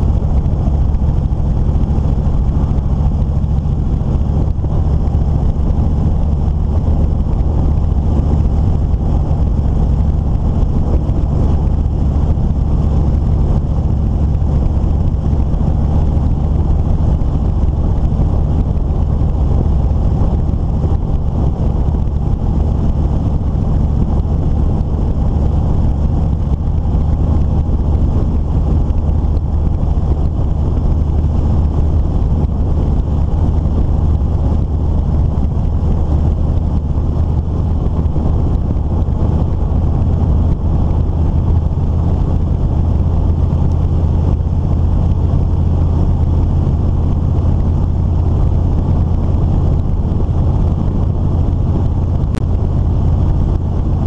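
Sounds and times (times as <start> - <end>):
vehicle engine drone: 0.0 - 54.0
wind rushing over microphone: 0.0 - 54.0.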